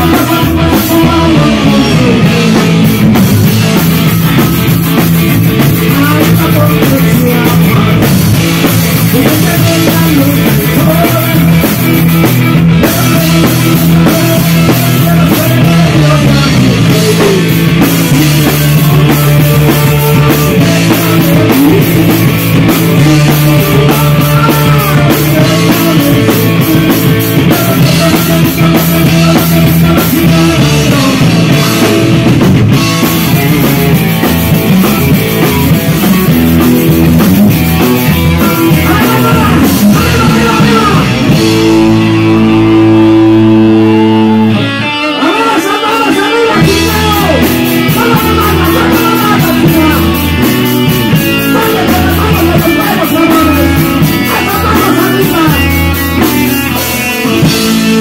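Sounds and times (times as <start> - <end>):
drum kit: 0.0 - 58.0
electric guitar: 0.0 - 58.0
live rock band playing: 0.0 - 58.0.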